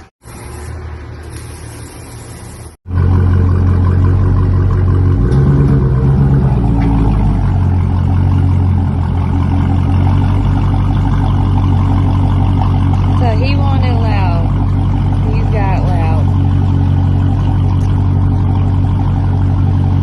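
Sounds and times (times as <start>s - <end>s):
car engine revving and idling: 2.9s - 20.0s.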